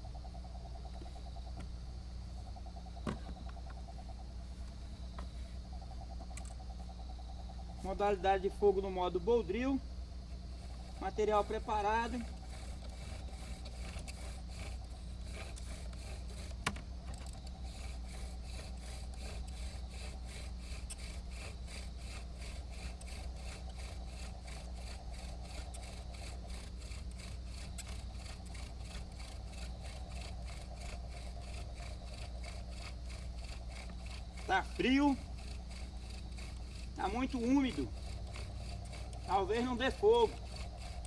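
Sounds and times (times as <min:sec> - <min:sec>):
bow drill spindle grinding wood: 0:07.8 - 0:41.0.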